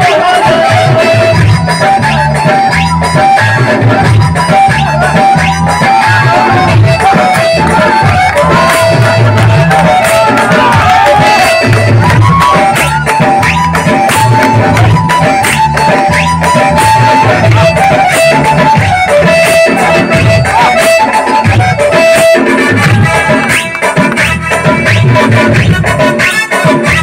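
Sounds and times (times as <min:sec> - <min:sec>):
high melody line: 0:00.0 - 0:27.0
lively folk music: 0:00.0 - 0:27.0
repeating drum rhythm: 0:00.0 - 0:27.0.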